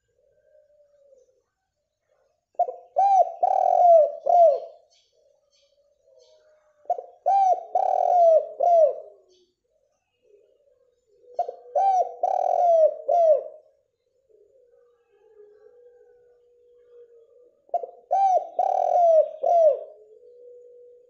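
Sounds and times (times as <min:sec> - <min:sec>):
dove cooing: 0:00.0 - 0:01.4, 0:02.5 - 0:05.4, 0:06.0 - 0:09.4, 0:10.2 - 0:21.0.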